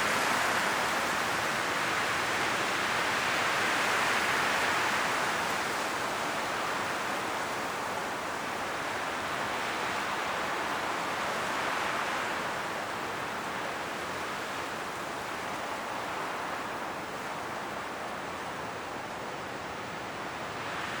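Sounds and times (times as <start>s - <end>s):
strong wind through trees: 0.0s - 21.0s.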